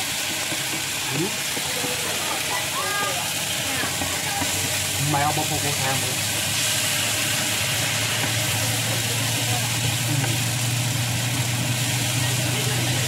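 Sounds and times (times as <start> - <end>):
minced meat sizzling in a pan: 0.0 - 13.0.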